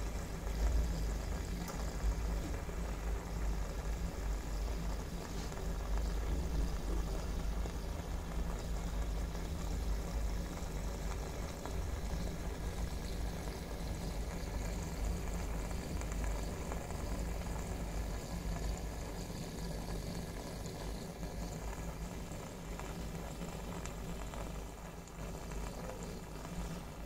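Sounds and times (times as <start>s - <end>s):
filter motor hum: 0.0s - 27.0s.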